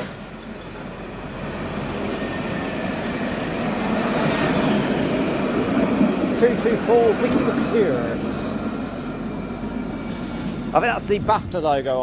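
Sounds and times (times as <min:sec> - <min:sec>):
tram rail rumble and hiss: 0:00.0 - 0:12.0.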